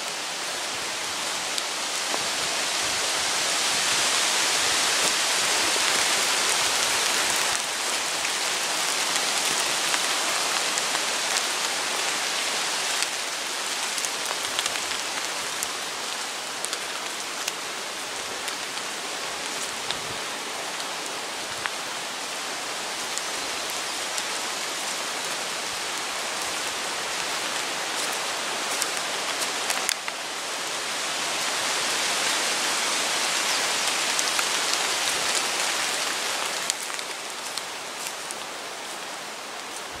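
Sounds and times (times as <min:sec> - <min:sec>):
rain falling on leaves: 0:00.0 - 0:40.0.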